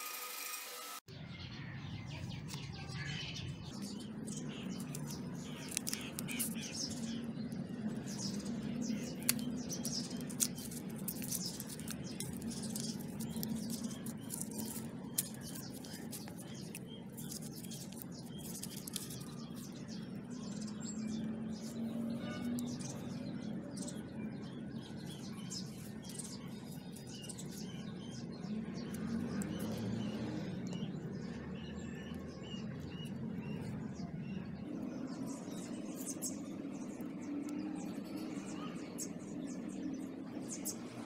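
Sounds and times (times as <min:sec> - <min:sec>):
small birds chirping: 0:01.1 - 0:41.0.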